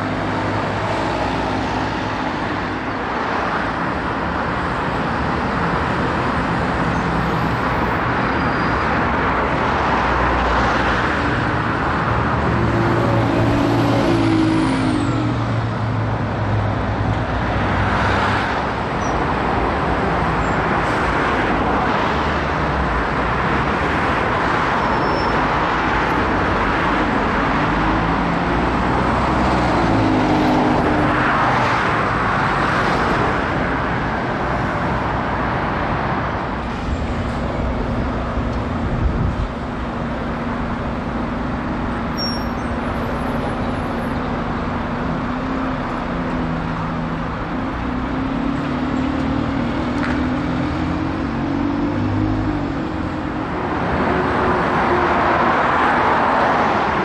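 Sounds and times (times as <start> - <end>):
bus diesel engines passing: 0.0 - 57.0
road traffic: 0.0 - 57.0.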